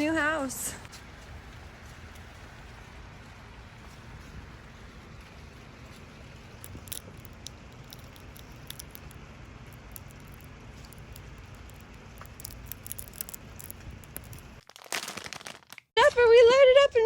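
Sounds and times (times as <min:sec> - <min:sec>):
low rumble: 0:00.8 - 0:14.6.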